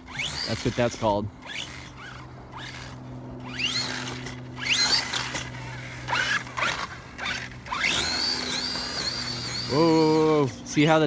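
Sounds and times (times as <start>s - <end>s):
electric motor whining: 0.0s - 10.8s.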